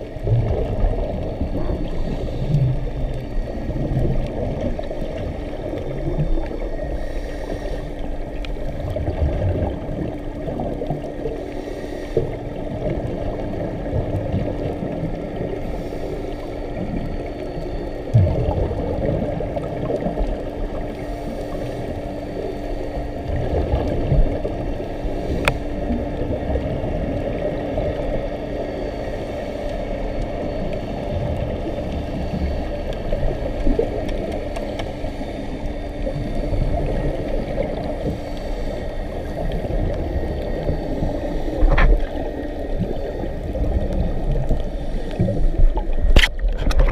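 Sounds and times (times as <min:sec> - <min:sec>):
muffled underwater rumble: 0:00.0 - 0:46.9
regulator bubbles gurgling: 0:00.0 - 0:46.9
steady low hum: 0:00.0 - 0:46.9.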